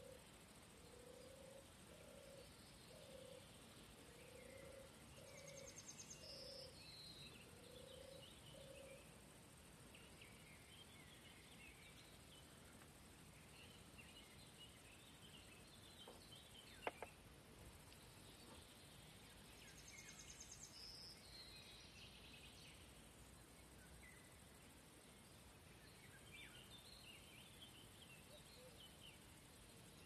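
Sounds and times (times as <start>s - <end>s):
faint distant birdsong: 0.0s - 30.0s.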